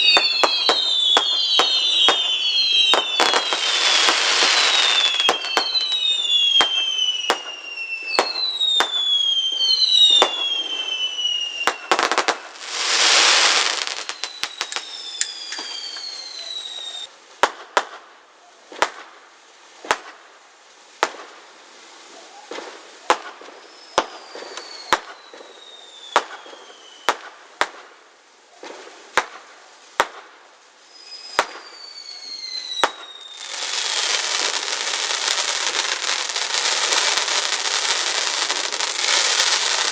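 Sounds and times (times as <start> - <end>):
whistling firework shells: 0.0 - 17.9, 22.4 - 27.8, 30.9 - 39.9
firework bangs: 0.0 - 20.3, 21.0 - 21.4, 22.4 - 28.0, 28.6 - 30.4, 31.1 - 39.9
loud firework hiss: 0.0 - 39.9.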